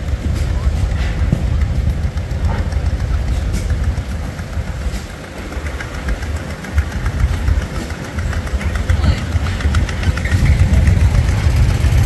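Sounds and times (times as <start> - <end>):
engine pulsing rumble: 0.0 - 12.0.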